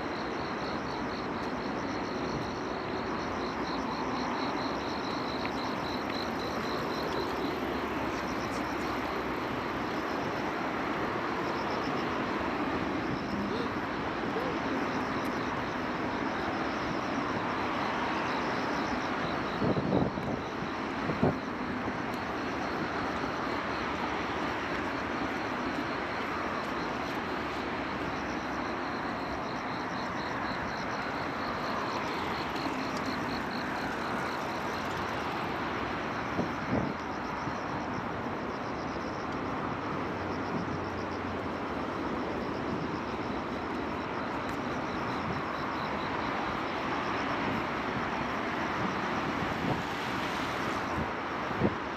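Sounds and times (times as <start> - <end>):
distant traffic hum: 0.0 - 51.9.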